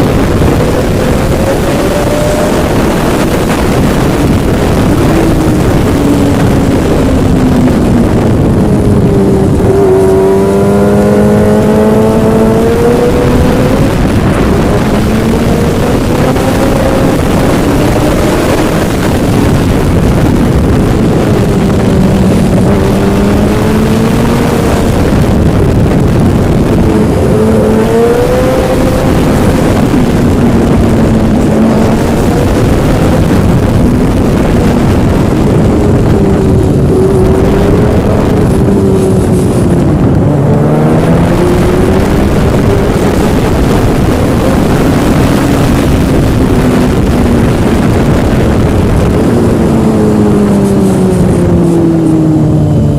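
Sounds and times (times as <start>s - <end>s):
engine running: 0.0s - 52.9s
rush of wind or water: 0.0s - 52.9s.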